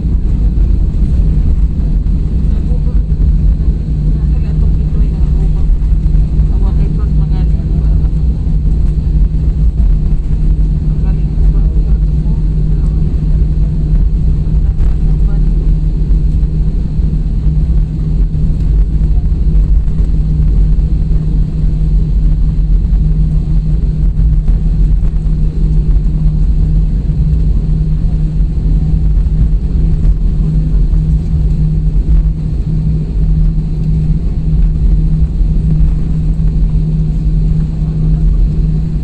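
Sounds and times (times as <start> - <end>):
airliner engine and wheels rumble: 0.0 - 39.0
constant low hum: 0.0 - 39.0.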